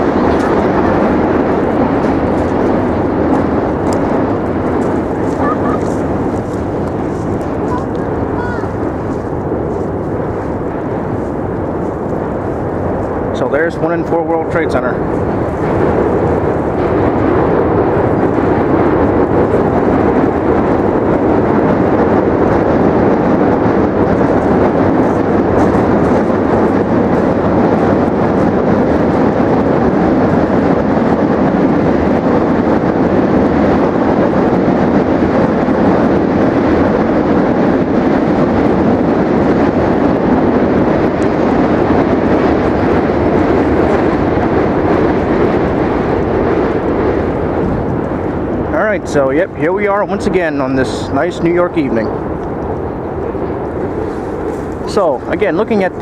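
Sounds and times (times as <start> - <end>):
steady loud rushing noise: 0.0 - 56.0.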